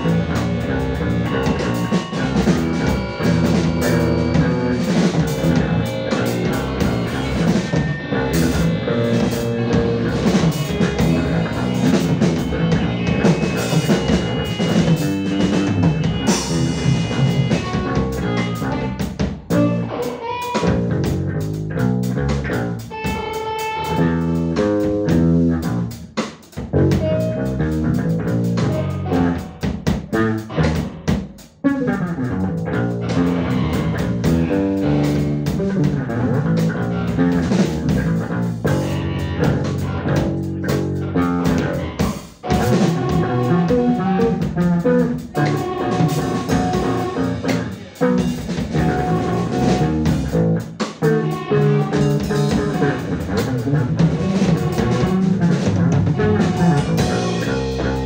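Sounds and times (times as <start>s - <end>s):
drum kit rapid hits: 0.0s - 19.9s, 20.6s - 58.0s
bass guitar with effects: 0.0s - 58.0s.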